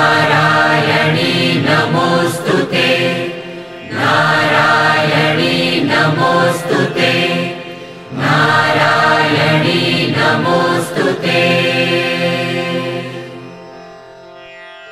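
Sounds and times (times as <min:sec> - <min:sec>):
person chanting a hymn: 0:00.0 - 0:13.5.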